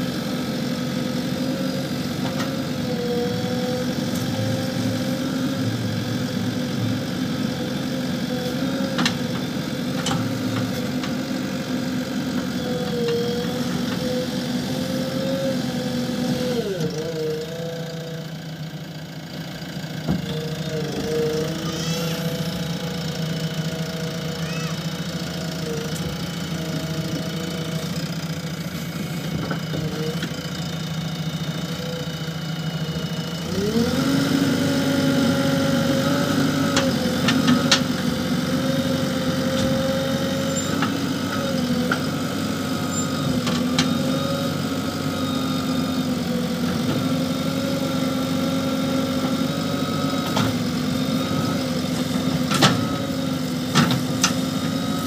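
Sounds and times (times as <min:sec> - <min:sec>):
diesel engine running and revving: 0:00.0 - 0:55.0.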